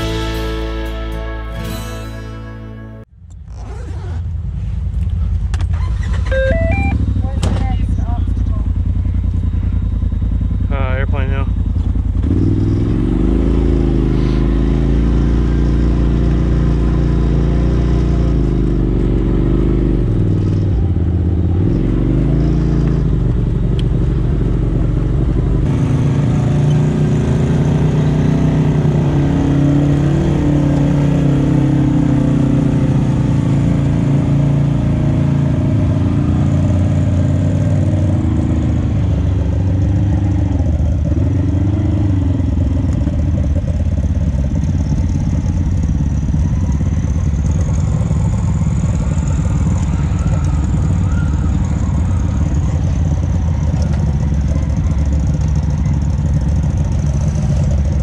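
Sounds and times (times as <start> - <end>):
side-by-side engine running: 3.1 - 58.0.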